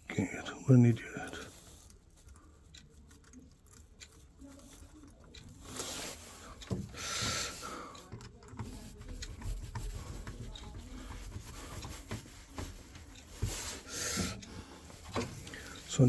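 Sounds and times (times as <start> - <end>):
small clicks and taps: 1.4 - 16.0.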